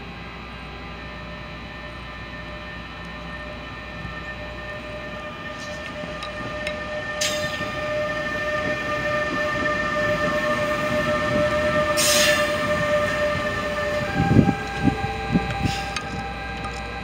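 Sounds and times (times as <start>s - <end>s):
electric locomotive whine: 0.0s - 17.0s
wheel and rail rumble: 0.0s - 17.0s.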